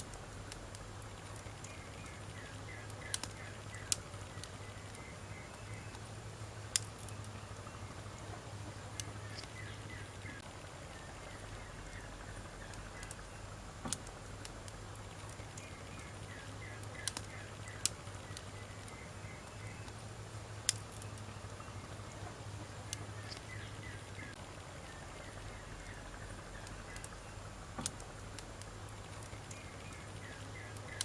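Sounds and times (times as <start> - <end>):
burning wood popping: 0.0 - 31.0
wood fire hissing: 0.0 - 31.0.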